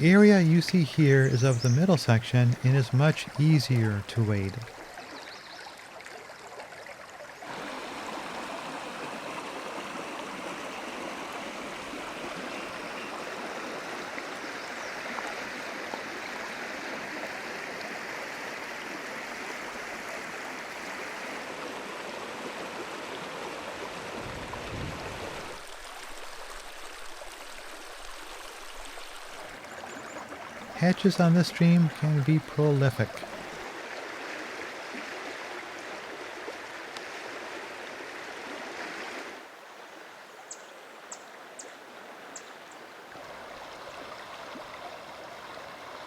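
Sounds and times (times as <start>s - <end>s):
creek water rushing: 0.0s - 46.0s.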